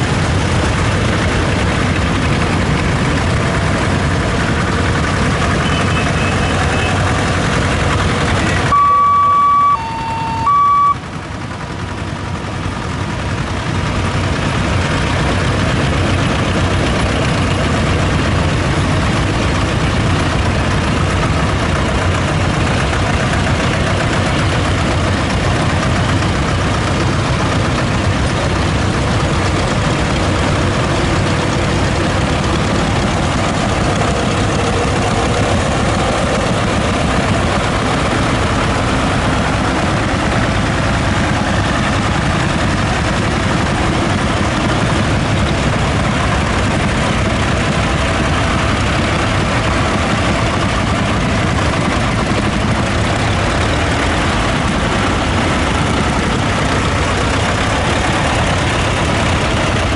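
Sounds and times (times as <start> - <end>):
tractor engines running: 0.0 - 59.9.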